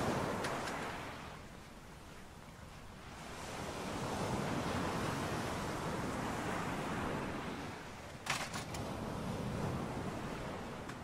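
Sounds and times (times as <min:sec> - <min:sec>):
distant surf: 0:00.0 - 0:11.0
wind: 0:00.0 - 0:11.0.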